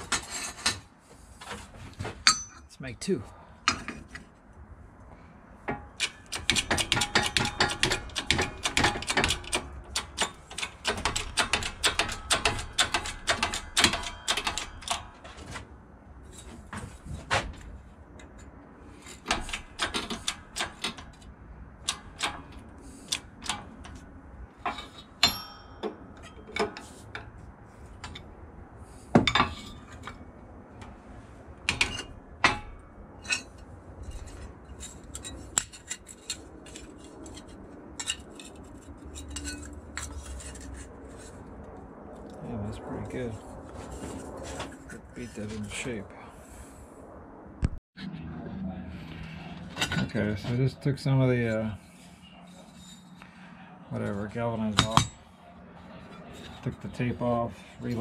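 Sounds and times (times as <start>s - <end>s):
steady low hum: 0.1s - 58.0s.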